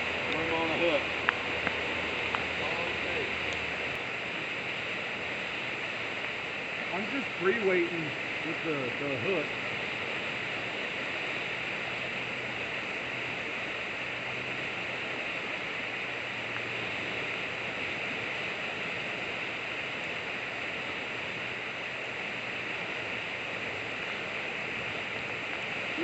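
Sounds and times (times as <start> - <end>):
river current rushing: 0.0 - 26.0.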